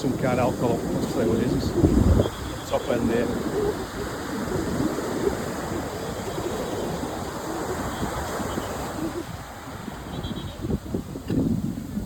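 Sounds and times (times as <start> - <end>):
surf washing onto beach: 0.0 - 12.0.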